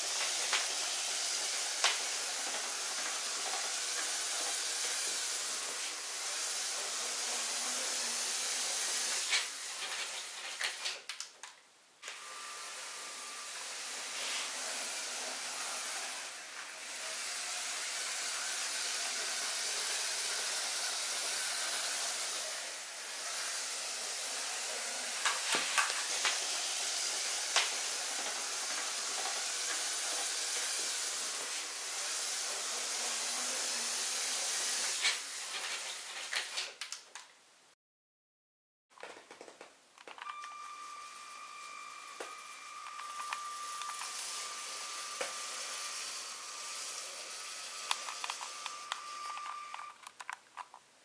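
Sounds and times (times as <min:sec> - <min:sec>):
toy train motors whirring: 0:00.0 - 0:37.2, 0:40.0 - 0:50.8.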